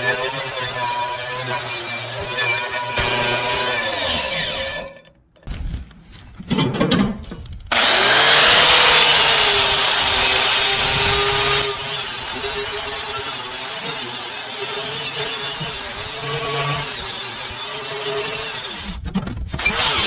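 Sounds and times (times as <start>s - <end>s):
angle grinder grinding metal: 0.0s - 5.2s, 7.7s - 20.0s.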